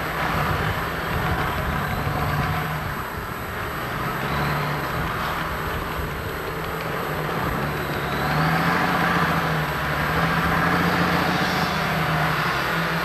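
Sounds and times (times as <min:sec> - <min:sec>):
helicopter rotor and turbine: 0:00.0 - 0:13.0.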